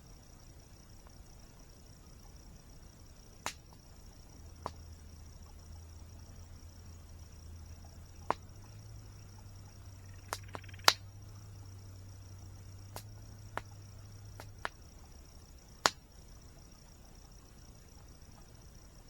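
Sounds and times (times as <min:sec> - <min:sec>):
high thin insect drone: 0:00.0 - 0:19.0
campfire wood crackling: 0:00.6 - 0:18.6.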